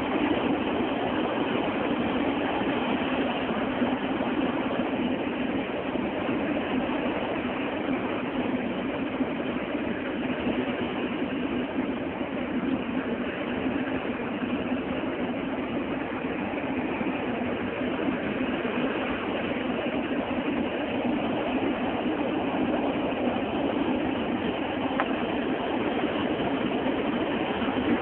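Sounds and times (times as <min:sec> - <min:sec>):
road and engine noise in vehicle: 0:00.0 - 0:28.0.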